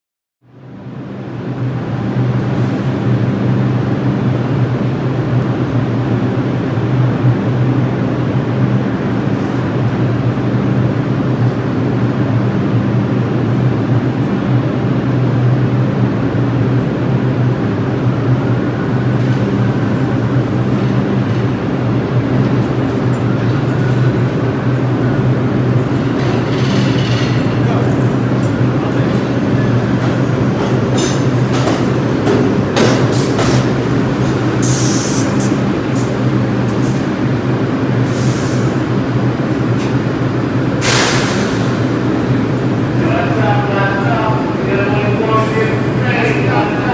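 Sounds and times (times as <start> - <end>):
subway train rumble: 0.4 - 46.9
faint train whine: 0.5 - 46.9.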